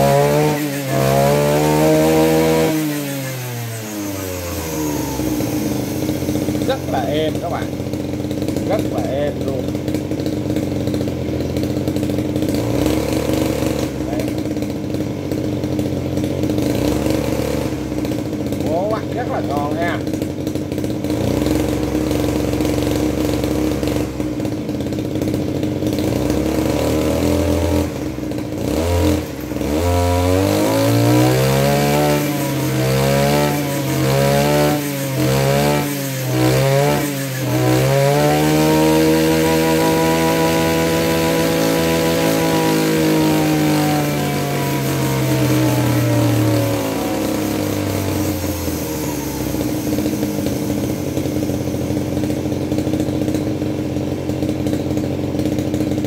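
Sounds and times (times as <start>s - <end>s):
brush cutter engine revving: 0.0s - 56.0s.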